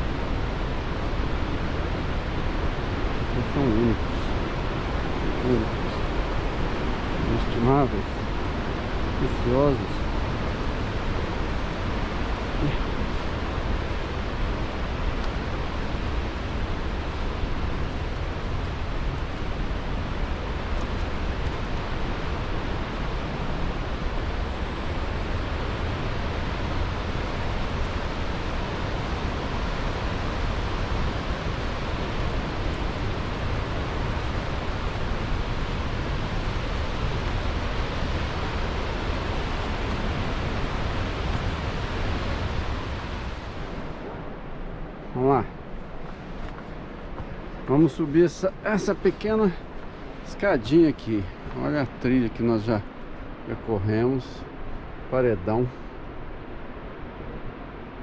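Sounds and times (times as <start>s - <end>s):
fast-flowing river water: 0.0s - 58.0s.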